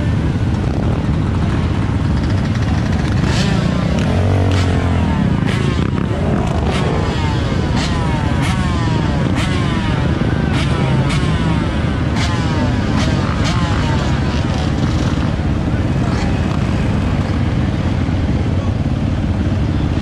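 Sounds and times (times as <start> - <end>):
dirt bike and quad engines revving: 0.0 - 20.0.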